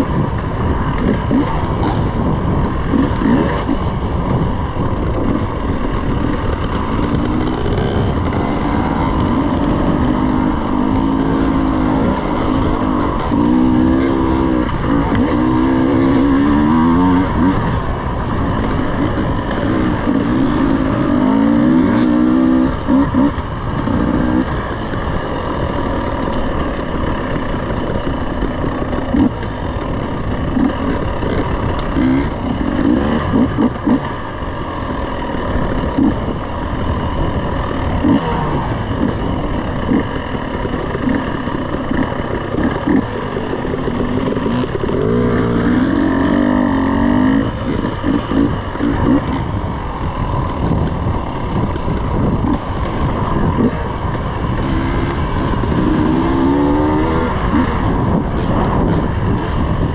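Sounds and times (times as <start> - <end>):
constant rushing noise: 0.0 - 59.9
dirt bike engine revving: 0.0 - 59.9.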